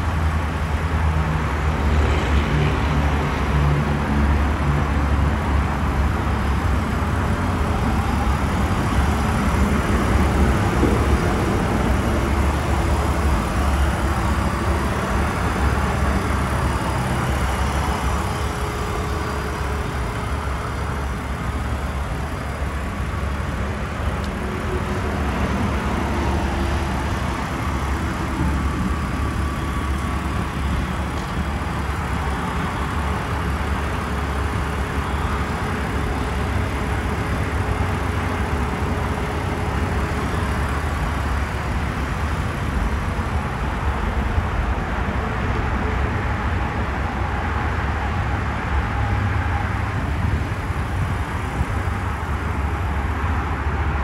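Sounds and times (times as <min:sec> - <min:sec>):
car engine running steadily: 0:00.0 - 0:54.0.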